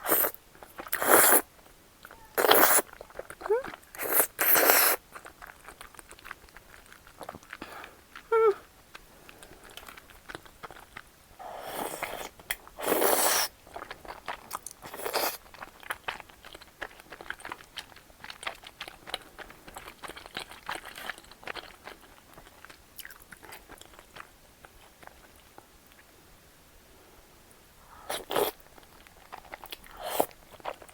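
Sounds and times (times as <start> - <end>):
crunching and chewing food: 0.0 - 26.4, 27.0 - 30.9.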